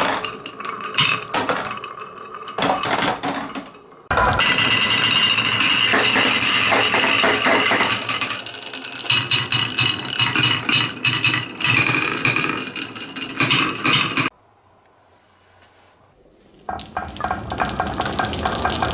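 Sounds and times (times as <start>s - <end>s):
marbles rattling down a marble run: 0.0s - 3.8s, 4.4s - 14.3s, 16.7s - 18.9s.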